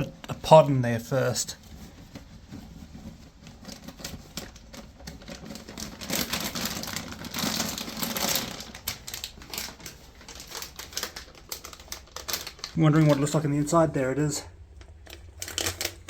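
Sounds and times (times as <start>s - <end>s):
handling rustling and scraping: 0.0s - 16.0s.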